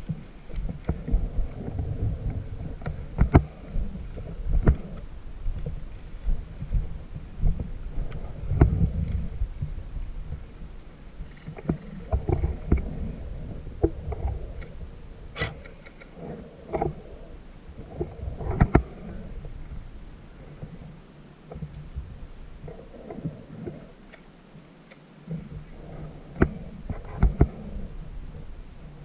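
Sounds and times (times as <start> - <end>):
rumbling wind on microphone: 0.0 - 24.1, 25.2 - 29.0.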